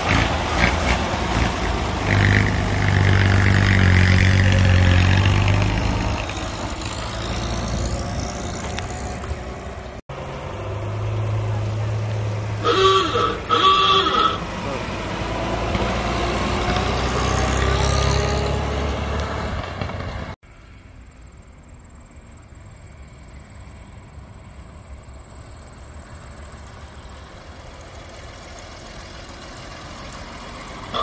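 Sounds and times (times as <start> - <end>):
old car engine rumbling: 0.0 - 17.9, 19.0 - 31.0.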